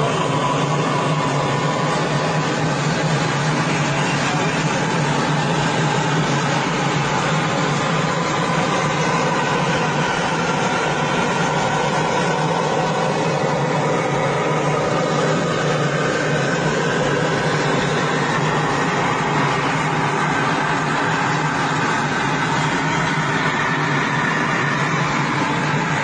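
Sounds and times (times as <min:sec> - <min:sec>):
jet cockpit hum and hiss: 0:00.0 - 0:26.0.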